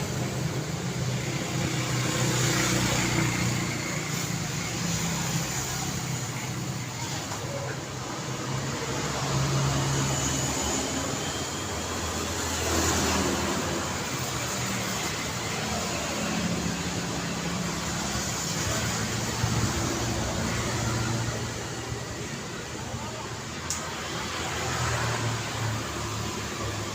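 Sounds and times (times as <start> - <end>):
cars and motorbikes passing: 0.0 - 26.9.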